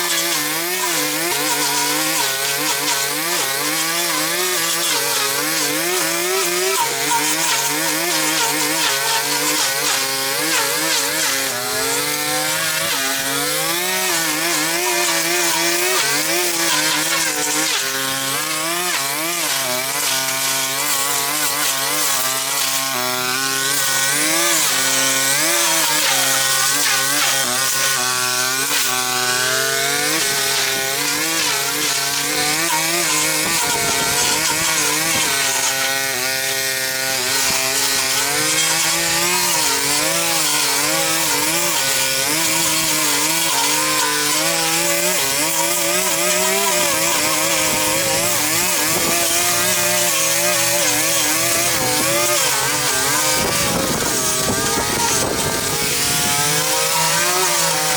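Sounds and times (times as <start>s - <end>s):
power tool engine cutting: 0.0s - 57.9s.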